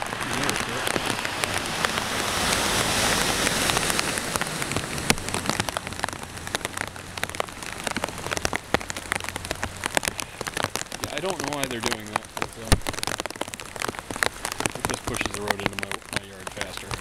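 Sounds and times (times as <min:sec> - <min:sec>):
heavy rain falling: 0:00.0 - 0:17.0
raindrops tapping: 0:00.0 - 0:17.0.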